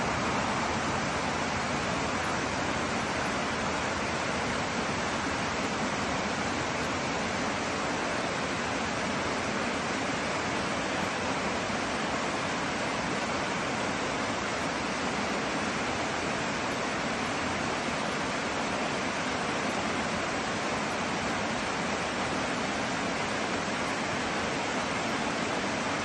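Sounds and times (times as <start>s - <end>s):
stream cascading over rocks: 0.0s - 26.0s.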